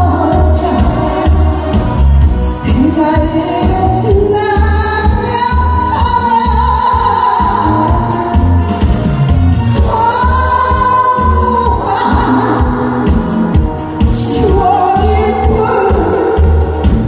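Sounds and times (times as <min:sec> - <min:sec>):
woman singing into a microphone: 0:00.0 - 0:08.6, 0:09.8 - 0:13.3, 0:14.1 - 0:17.0
music with bass beat: 0:00.0 - 0:17.0.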